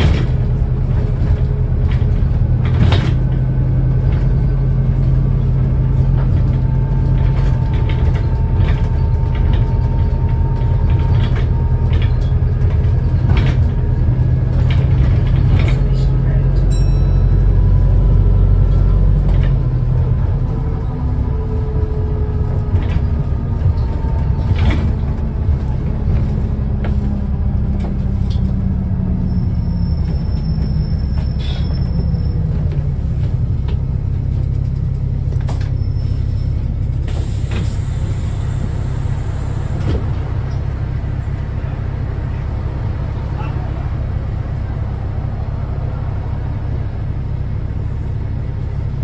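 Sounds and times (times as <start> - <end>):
bus engine droning: 0.0 - 49.0.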